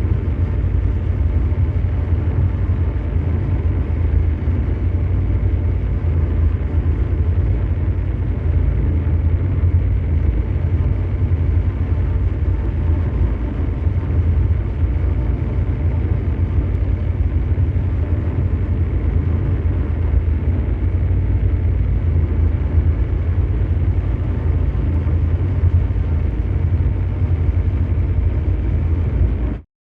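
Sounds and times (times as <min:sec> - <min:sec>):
deep mechanical drone rumble: 0:00.0 - 0:29.6
faint steady hum tones: 0:00.0 - 0:29.6.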